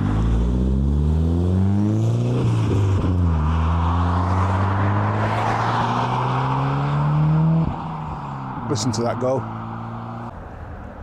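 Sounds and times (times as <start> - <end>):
car engine accelerating hard: 0.0 - 10.3.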